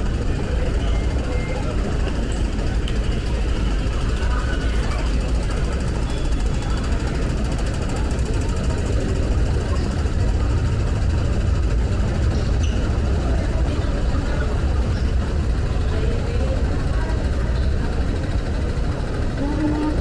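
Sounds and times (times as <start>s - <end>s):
metro train rumble: 0.0s - 20.0s.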